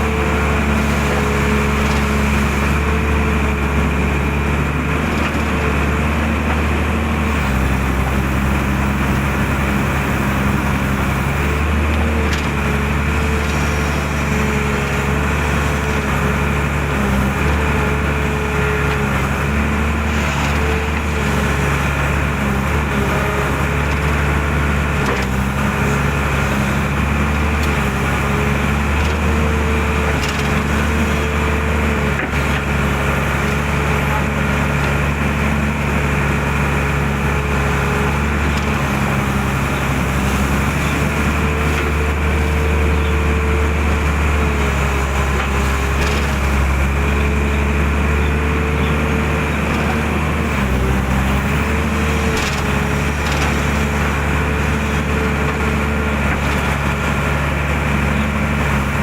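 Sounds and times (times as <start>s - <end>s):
excavator diesel engine running: 0.0s - 59.0s
hydraulic whine: 0.0s - 59.0s.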